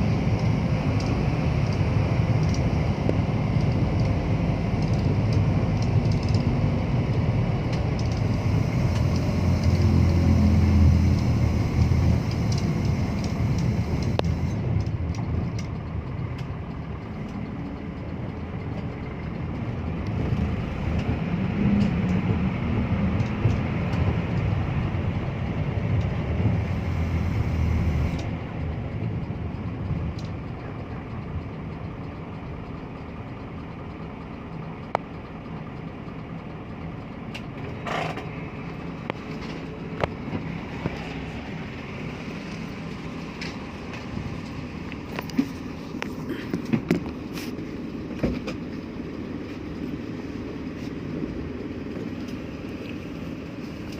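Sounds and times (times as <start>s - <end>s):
motor vehicle engine: 0.0s - 53.9s
road noise: 0.0s - 53.9s.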